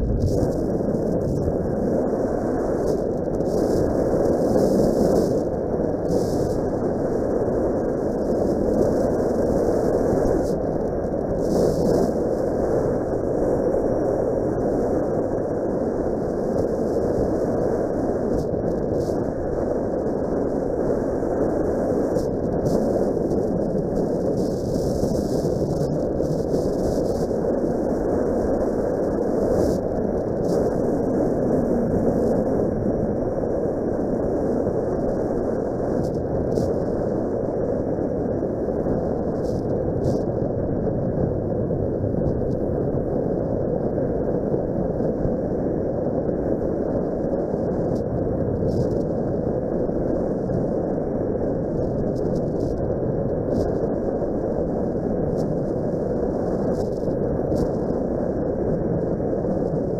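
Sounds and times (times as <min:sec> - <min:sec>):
wind rush: 0:00.0 - 0:59.9.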